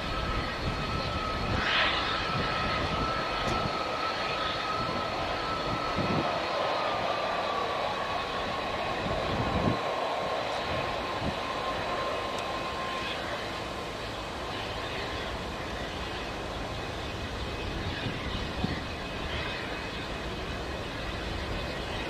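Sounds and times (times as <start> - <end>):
high jet engine whine: 0.0 - 22.0
jet engine rumble and hiss: 0.0 - 22.0.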